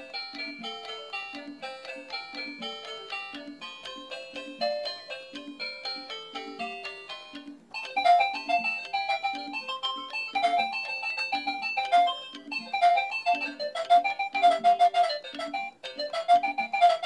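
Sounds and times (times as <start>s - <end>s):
toy electronic beeping melody: 0.0s - 17.0s.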